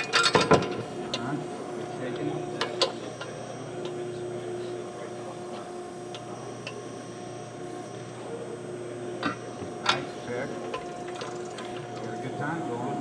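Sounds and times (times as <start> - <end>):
hydraulic whine: 0.0 - 13.0.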